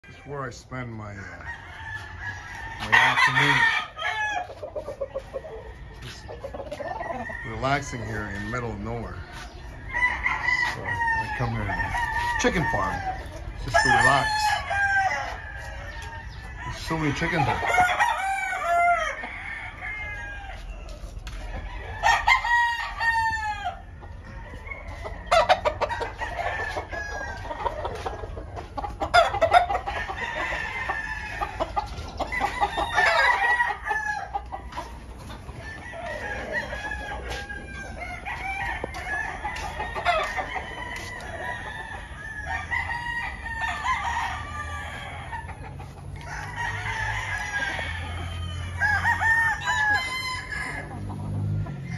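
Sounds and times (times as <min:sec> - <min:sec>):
chickens clucking: 0:00.0 - 0:51.9
roosters crowing: 0:00.0 - 0:51.9.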